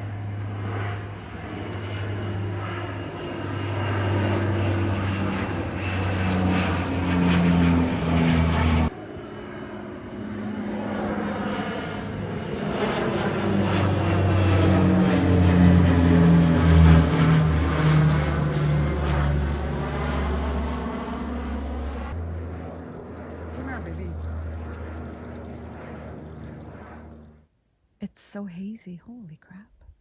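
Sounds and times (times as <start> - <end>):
propeller airplane engine droning: 0.0 - 27.5.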